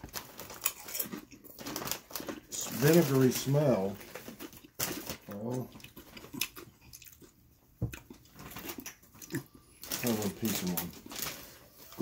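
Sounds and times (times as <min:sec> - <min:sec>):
potato chips crunching: 0:00.0 - 0:07.4, 0:08.0 - 0:12.0.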